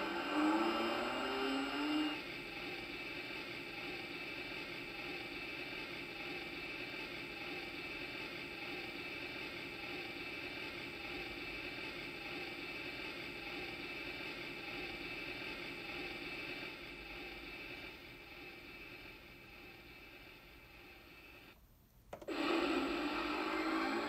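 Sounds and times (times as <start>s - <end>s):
electronic engine hum from toy speaker: 0.0s - 24.0s.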